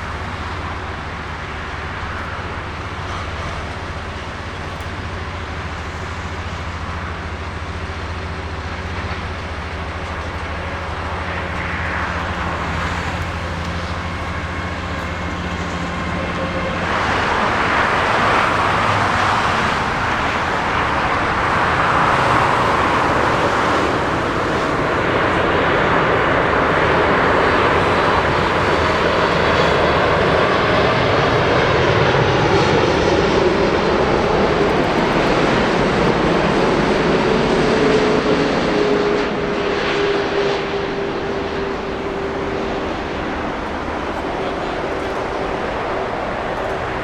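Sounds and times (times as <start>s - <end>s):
jet engine whine: 0.0s - 47.0s
jet engines roaring: 0.0s - 47.0s.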